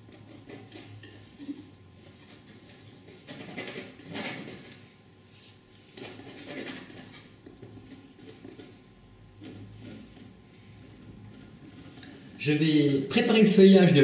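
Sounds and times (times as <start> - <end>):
painting knife scraping paint: 0.0 - 12.2.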